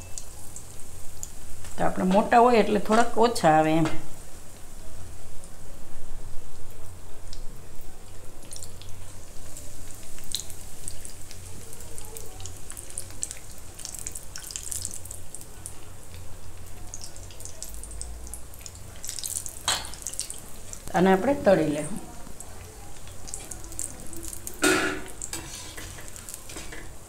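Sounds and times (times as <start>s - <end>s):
oil sizzling with crackles: 0.0s - 27.0s.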